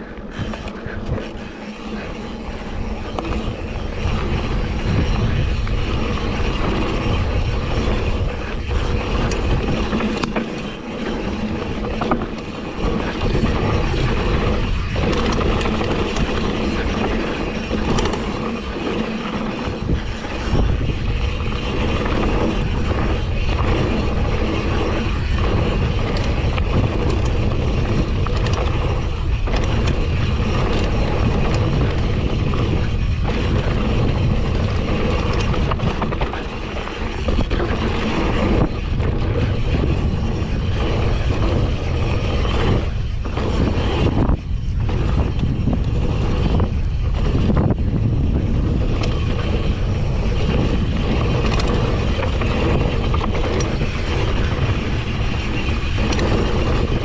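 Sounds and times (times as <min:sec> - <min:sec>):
bike rattling and knocking: 0:00.0 - 0:57.0
tyres rolling over dirt trail: 0:00.0 - 0:57.0
wind rushing over microphone: 0:00.0 - 0:57.0.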